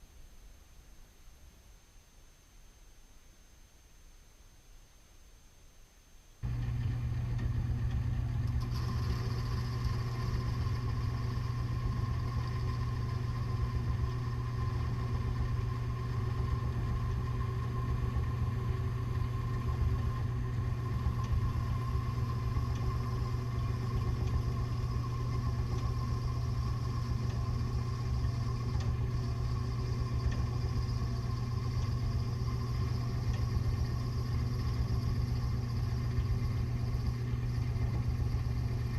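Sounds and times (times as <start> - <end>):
machine motor humming: 6.4 - 38.9.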